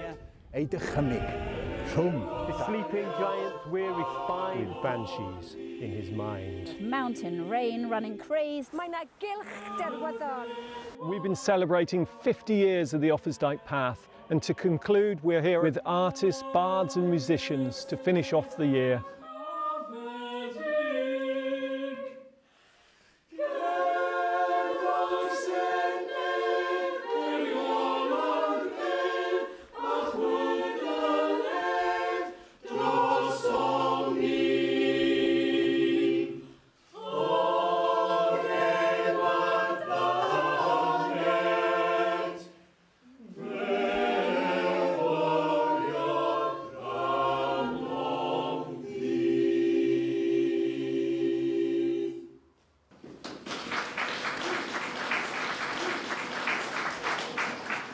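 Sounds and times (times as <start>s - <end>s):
choir singing unaccompanied: 0.0s - 22.4s, 23.3s - 52.4s, 54.0s - 57.9s.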